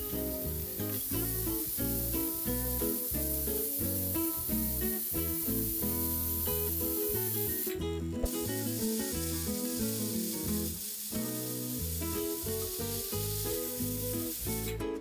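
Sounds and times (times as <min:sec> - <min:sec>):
pressure cooker whistling: 0:00.0 - 0:14.8
guitar music: 0:00.0 - 0:15.0.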